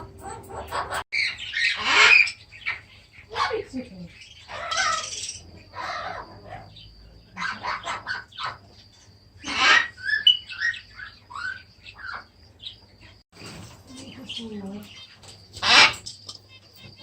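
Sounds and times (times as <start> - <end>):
pet birds chirping and squawking: 0.0 - 17.0.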